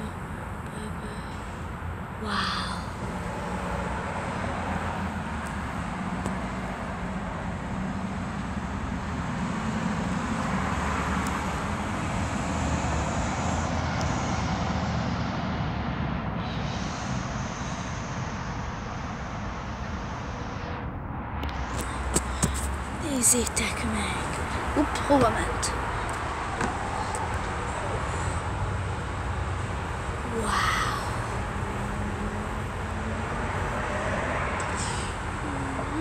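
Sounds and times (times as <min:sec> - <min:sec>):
low hum and hiss: 0:00.0 - 0:12.5, 0:15.8 - 0:36.0.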